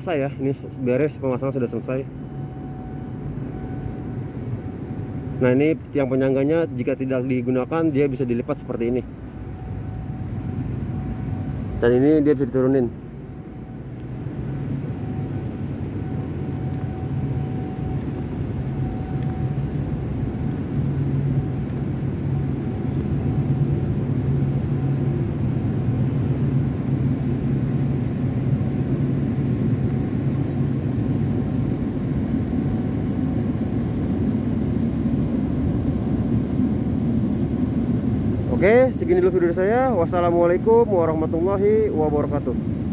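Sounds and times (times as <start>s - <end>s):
machine droning: 0.0s - 42.9s.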